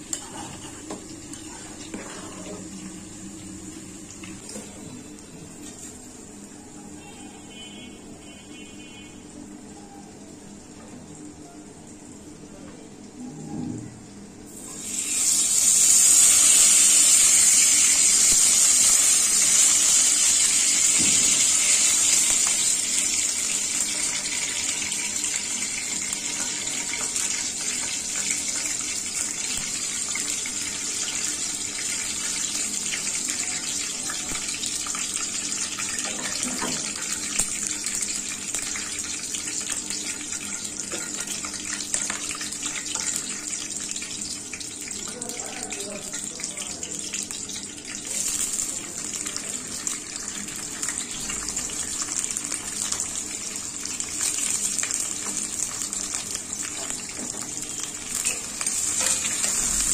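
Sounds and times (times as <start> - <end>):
hot oil sizzling and crackling: 0.0 - 6.4, 14.5 - 59.9.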